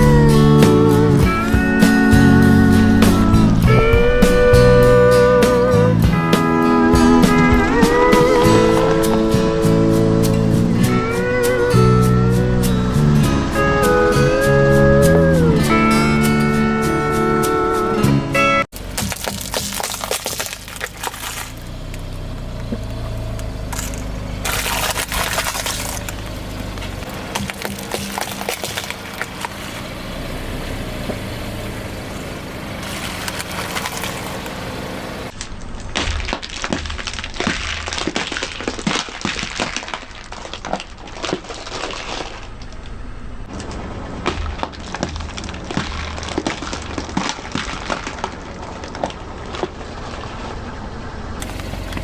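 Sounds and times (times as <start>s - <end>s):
objects crunching under car tyres: 0.0s - 16.6s, 18.7s - 52.0s
car engine running low: 0.0s - 38.1s, 40.3s - 52.0s.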